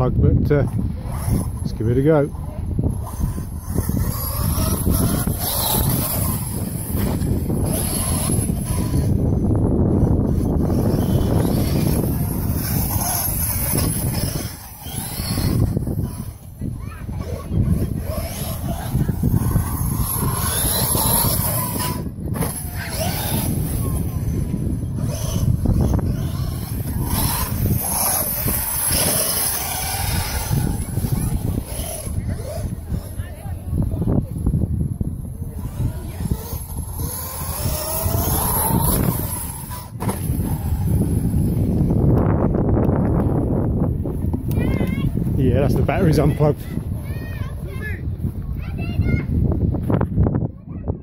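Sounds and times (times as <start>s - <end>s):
electric motor whine: 0.7s - 47.0s.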